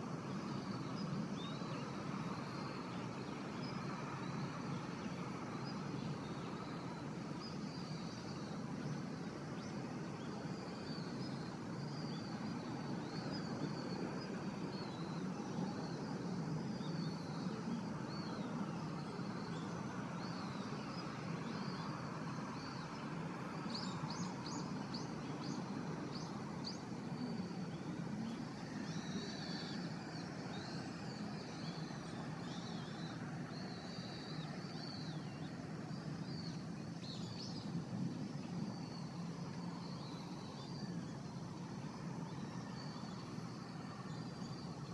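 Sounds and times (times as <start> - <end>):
distant engine drone: 0.1 - 44.9
small birds chirping: 0.1 - 44.9.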